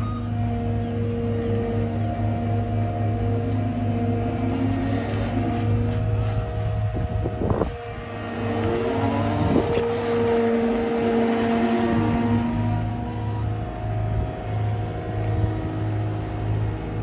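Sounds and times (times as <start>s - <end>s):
track loader engine and hydraulic drone: 0.0s - 17.0s.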